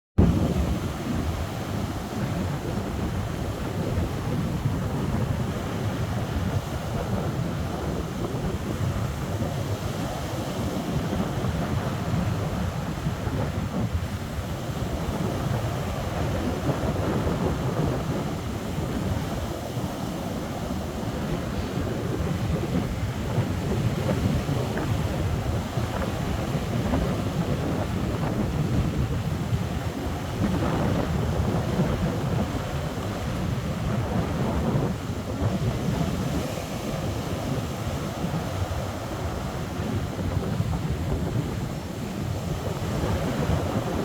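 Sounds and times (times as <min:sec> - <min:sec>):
sea waves: 0:00.2 - 0:44.0
wind buffeting microphone: 0:00.2 - 0:44.0.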